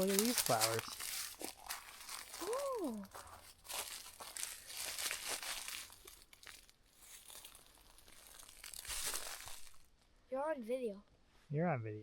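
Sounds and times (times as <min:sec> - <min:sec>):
footsteps crunching through dry brush: 0:00.0 - 0:09.9.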